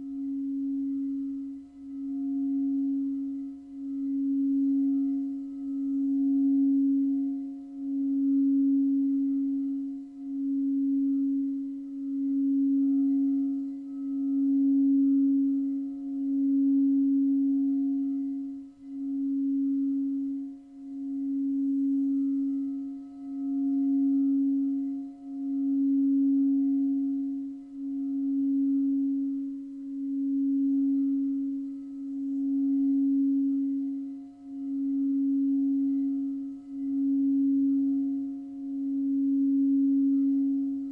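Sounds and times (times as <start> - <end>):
singing bowl low tone: 0.0 - 40.9.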